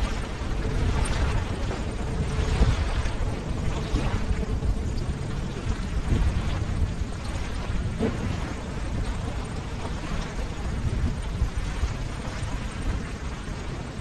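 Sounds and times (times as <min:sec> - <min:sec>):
ocean surf with low rumble: 0:00.0 - 0:14.0.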